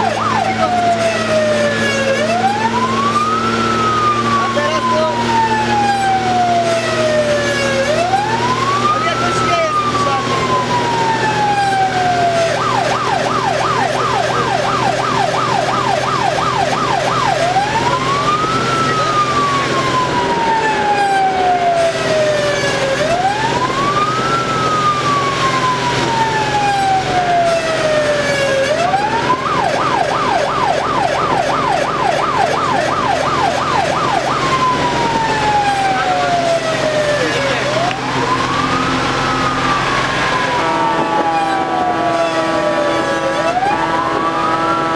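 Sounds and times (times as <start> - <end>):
fire engine siren: 0.0 - 44.9
truck engine drone: 0.0 - 44.9.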